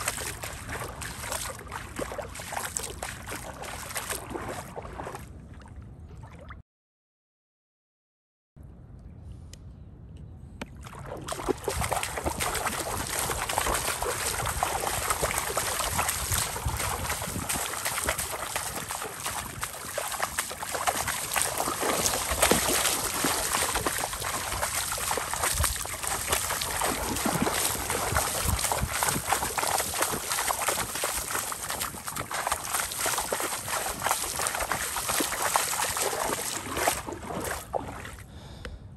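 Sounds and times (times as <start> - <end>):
footsteps splashing through water: 0.0 - 6.6, 10.7 - 38.3.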